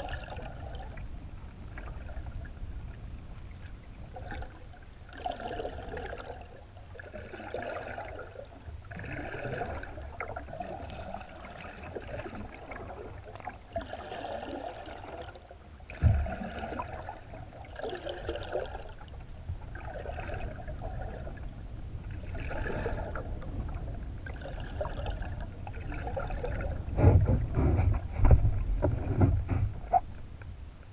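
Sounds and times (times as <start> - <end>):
water rumbling under kayak hull: 0.0 - 30.9.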